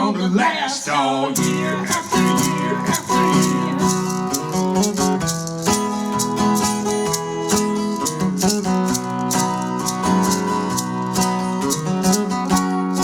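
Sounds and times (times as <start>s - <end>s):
strummed acoustic guitar: 1.3s - 13.0s
live band playing: 1.4s - 12.6s.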